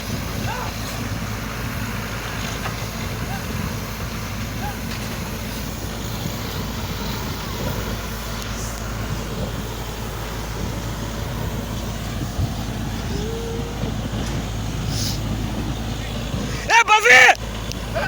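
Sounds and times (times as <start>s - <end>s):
drilling rig engine humming: 0.0s - 18.0s.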